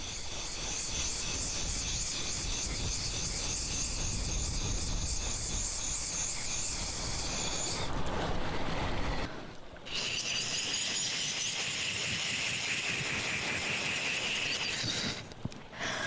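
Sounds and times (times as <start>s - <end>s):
cicada buzzing: 0.0s - 7.9s, 9.9s - 15.2s.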